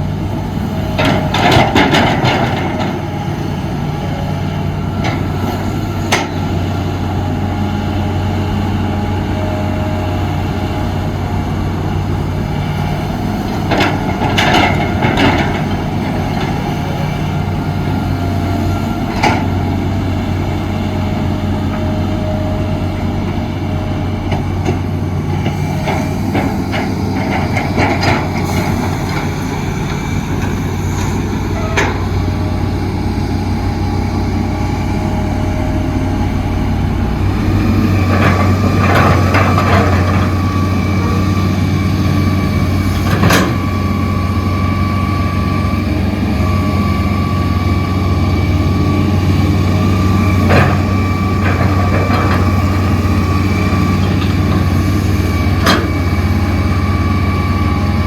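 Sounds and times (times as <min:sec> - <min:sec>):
diesel construction machinery running: 0:00.0 - 0:58.0.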